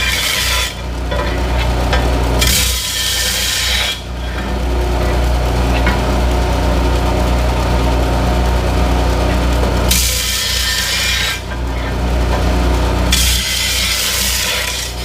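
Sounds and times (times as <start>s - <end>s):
power saw cutting steel plate: 0.0s - 7.6s, 8.2s - 15.0s.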